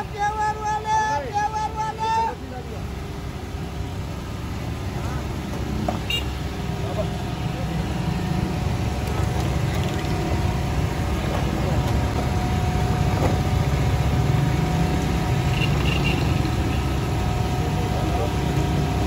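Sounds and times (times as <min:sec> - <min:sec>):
engine idling: 0:00.0 - 0:19.0
street noise: 0:00.0 - 0:19.0.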